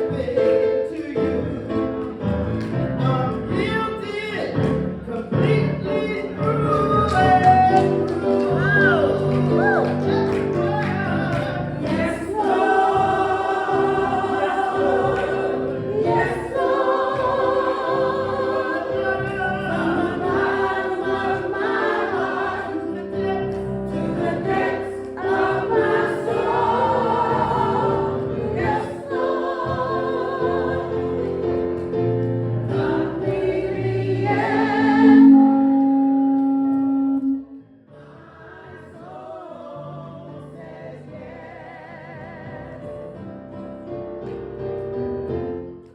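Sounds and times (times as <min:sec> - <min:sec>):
choir singing gospel: 0:00.0 - 0:44.0
soft music: 0:00.0 - 0:45.9.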